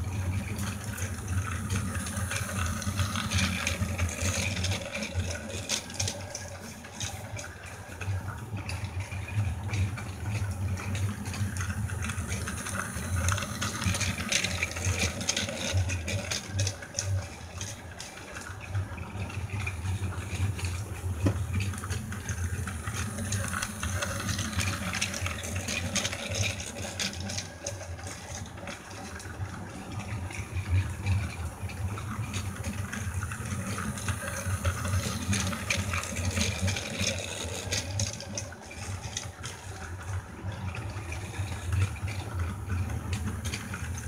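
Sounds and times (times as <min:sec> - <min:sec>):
toy train motor hum: 0:00.0 - 0:44.0.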